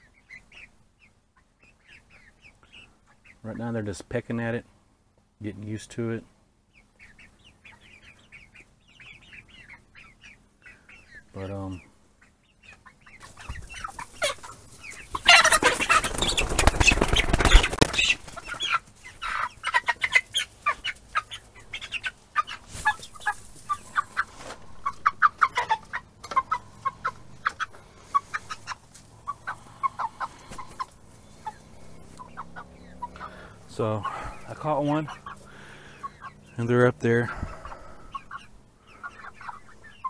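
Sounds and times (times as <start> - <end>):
chickens clucking and calling: 0.0 - 40.0
chickens squawking loudly: 6.8 - 40.0.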